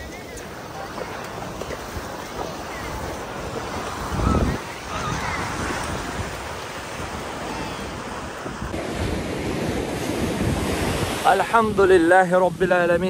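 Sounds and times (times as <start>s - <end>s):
ocean surf washing onto beach: 0.0s - 13.0s
wind buffeting microphone: 0.0s - 13.0s.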